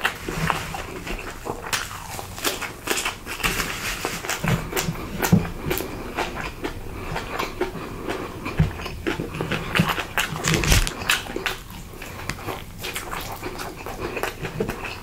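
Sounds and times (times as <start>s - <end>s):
chewing and smacking food: 0.0s - 15.0s.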